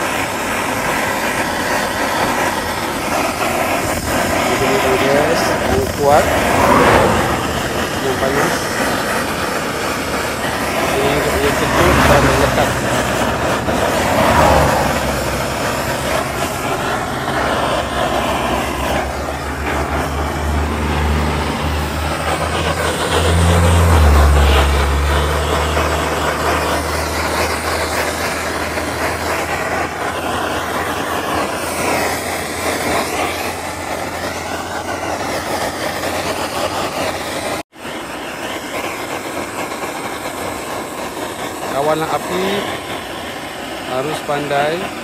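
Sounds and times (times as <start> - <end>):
gas torch hissing: 0.0 - 45.0
vehicle engine rumbling: 0.0 - 45.0.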